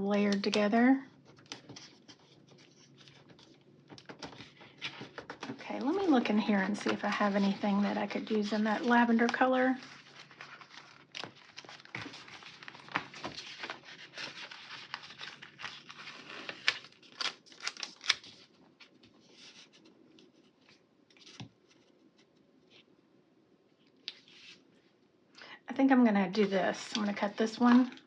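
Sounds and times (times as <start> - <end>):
paper and plastic rustling: 0.1 - 22.9, 26.3 - 28.0.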